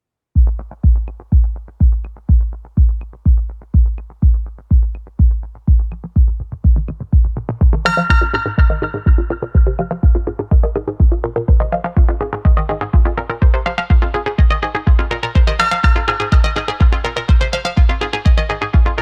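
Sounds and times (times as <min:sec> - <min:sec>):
heavy kick drum: 0:00.4 - 0:19.0
synthesizer chords: 0:00.4 - 0:19.0.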